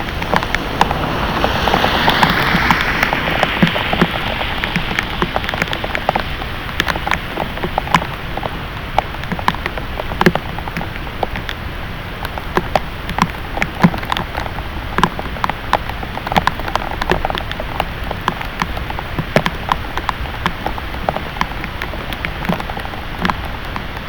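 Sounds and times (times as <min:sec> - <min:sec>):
heavy rain pouring: 0:00.0 - 0:24.0
raindrops splatting: 0:00.0 - 0:24.0.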